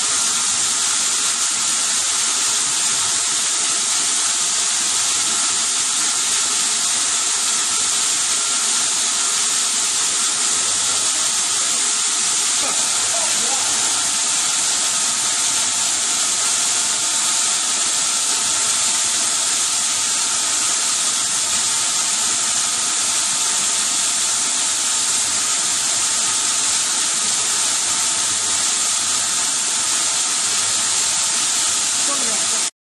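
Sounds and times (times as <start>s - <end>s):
faint high machine whine: 0.0s - 32.7s
sawmill machinery hissing: 0.0s - 32.7s.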